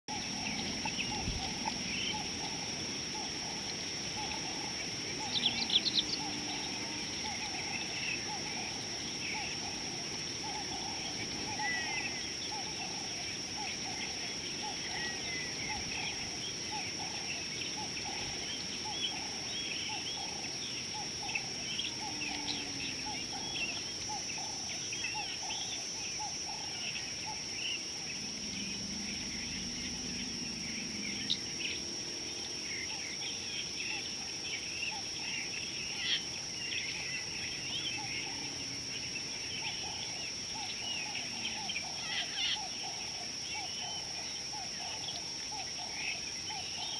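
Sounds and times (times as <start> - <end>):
wild birds chirping: 0.1 - 46.9.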